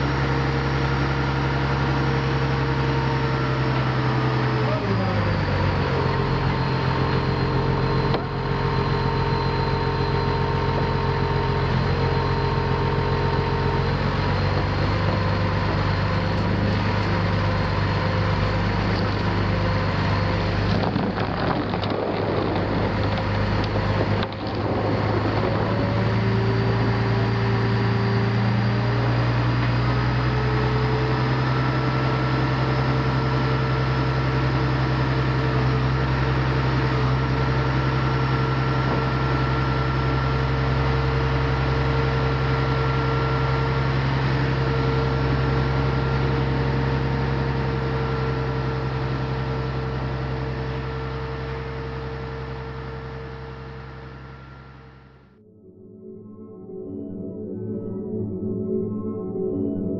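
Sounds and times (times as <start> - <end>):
heavy diesel engine humming: 0.0 - 55.4.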